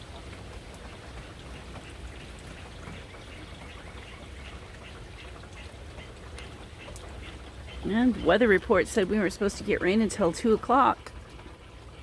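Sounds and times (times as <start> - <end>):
light rain falling: 0.0 - 12.0
water drops dripping: 0.0 - 12.0.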